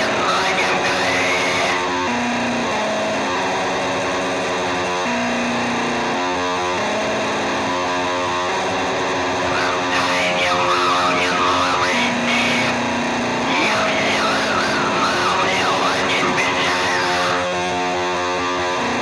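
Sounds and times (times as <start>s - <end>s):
distorted guitar music: 0.0s - 19.0s.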